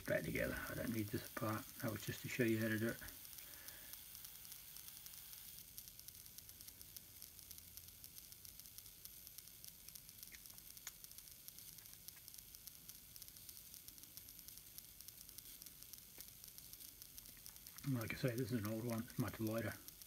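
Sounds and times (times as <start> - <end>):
fine crackle: 0.0 - 20.0.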